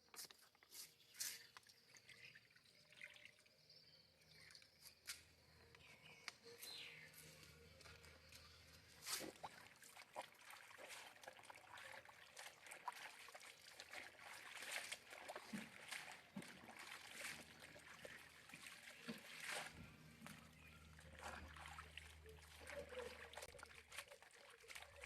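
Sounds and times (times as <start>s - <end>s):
water sloshing and splashing: 0.2s - 25.0s.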